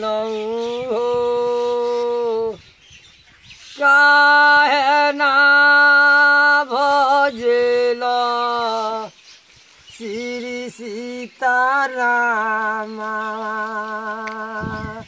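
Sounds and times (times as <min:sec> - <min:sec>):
man singing unaccompanied: 0:00.0 - 0:02.7, 0:03.7 - 0:09.2, 0:09.9 - 0:15.0.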